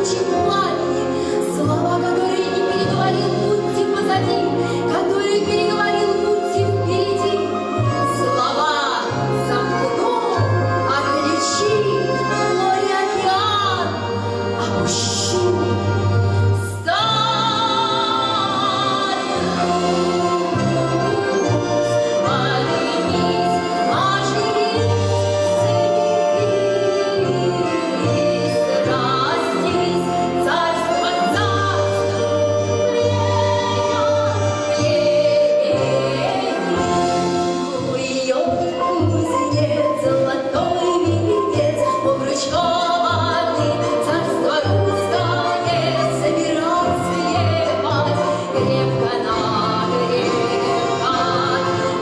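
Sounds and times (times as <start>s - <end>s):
orchestra playing: 0.0s - 52.0s
woman singing classical: 0.0s - 52.0s.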